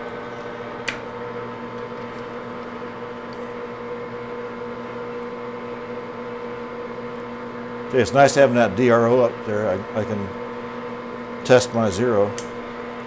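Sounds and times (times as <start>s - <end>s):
lathe humming and whining: 0.0s - 13.0s.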